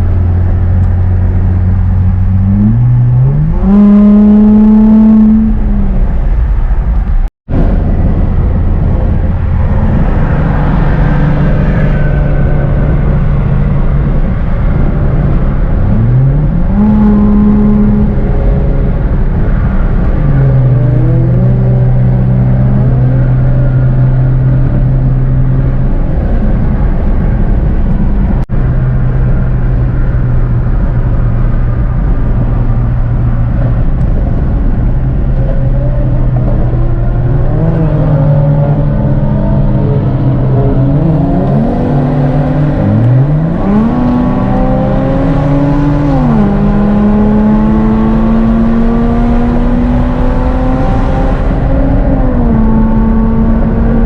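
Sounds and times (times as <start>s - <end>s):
car engine accelerating: 0.0s - 54.0s
road noise: 0.0s - 54.0s.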